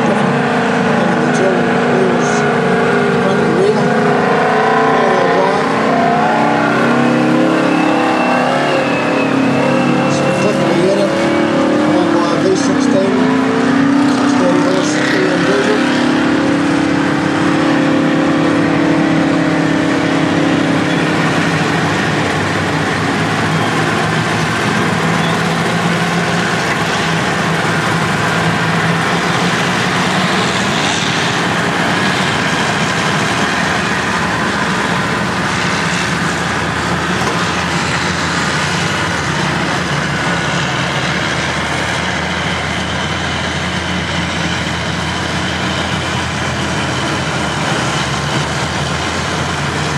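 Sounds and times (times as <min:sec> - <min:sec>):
heavy diesel engines: 0:00.0 - 0:49.9.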